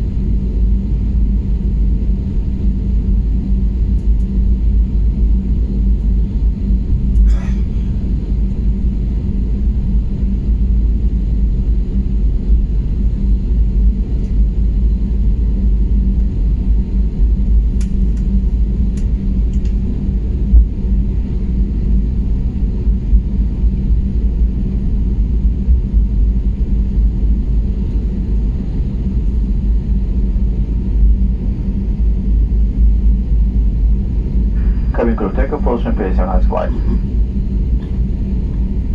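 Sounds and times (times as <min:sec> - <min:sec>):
airplane cabin rumble and hum: 0:00.0 - 0:38.9.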